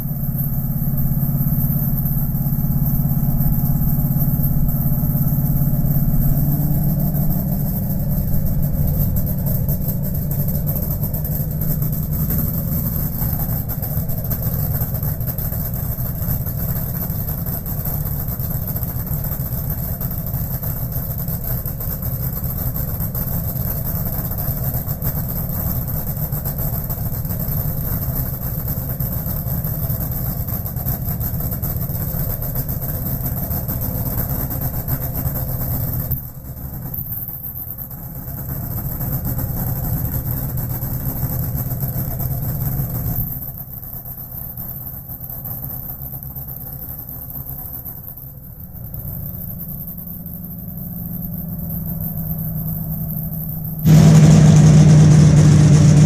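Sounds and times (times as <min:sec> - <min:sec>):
dragster engine idling: 0:00.0 - 0:56.0.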